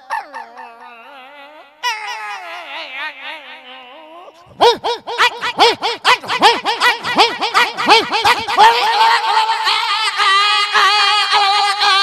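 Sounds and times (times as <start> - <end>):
man imitating puppy yelps: 0.0 - 12.0.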